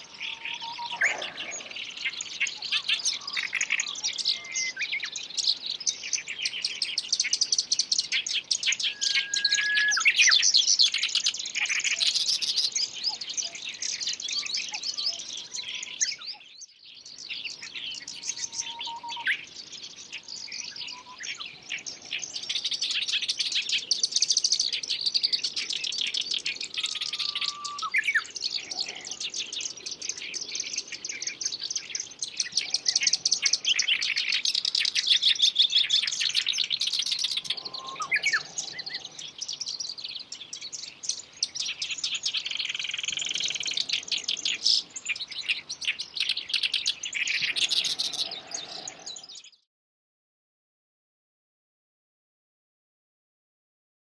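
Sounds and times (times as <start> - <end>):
warbler singing: 0.0 - 49.7.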